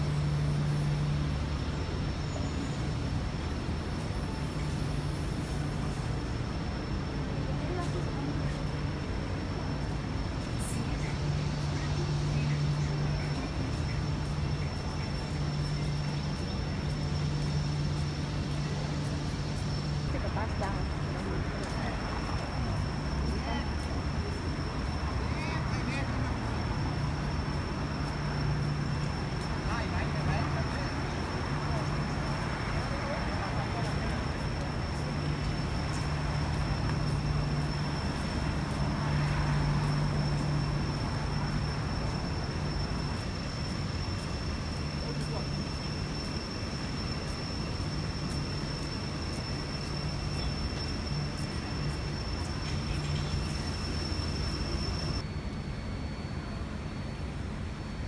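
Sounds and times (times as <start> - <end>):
car engines: 0.0 - 55.4
faint high whine: 0.0 - 58.0
traffic rumble: 0.0 - 58.0.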